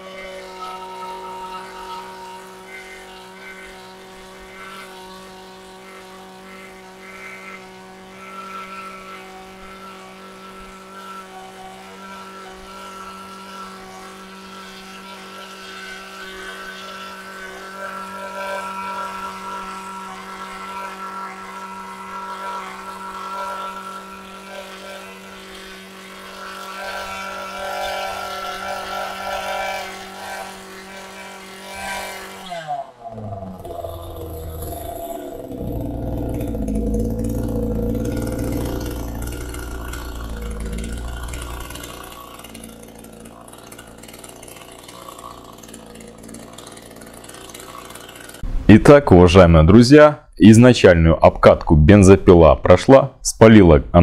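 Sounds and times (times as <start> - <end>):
chainsaw engine at high revs: 0.0 - 53.0.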